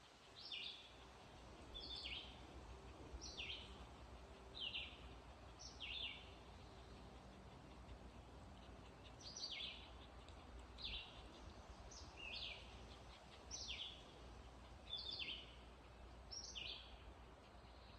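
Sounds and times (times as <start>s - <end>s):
bird chirping: 0.0s - 17.9s
faint background hiss: 0.0s - 17.9s.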